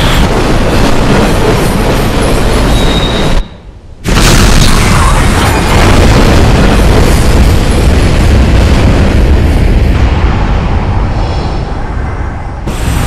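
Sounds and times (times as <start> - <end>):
speeding train rushing: 0.0 - 4.0, 5.1 - 13.0.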